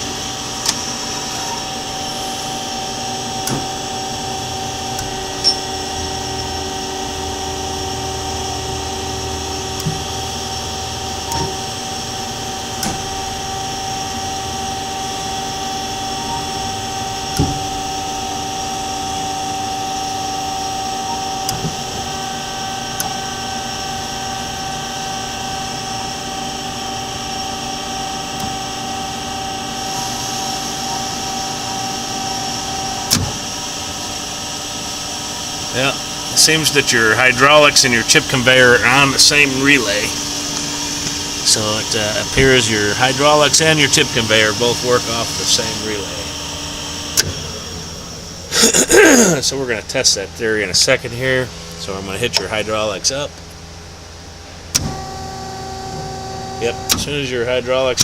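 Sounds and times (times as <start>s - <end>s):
bandsaw motors humming: 0.0s - 58.0s.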